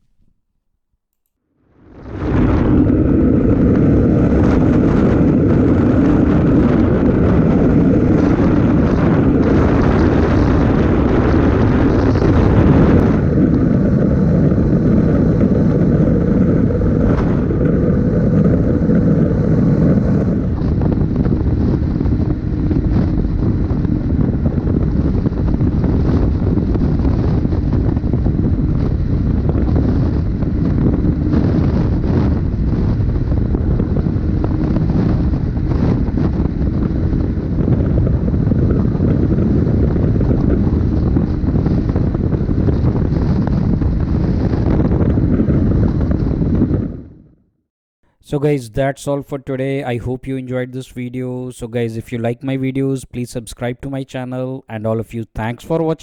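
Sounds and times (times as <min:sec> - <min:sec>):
strong wind blasting microphone: 0:01.6 - 0:53.3.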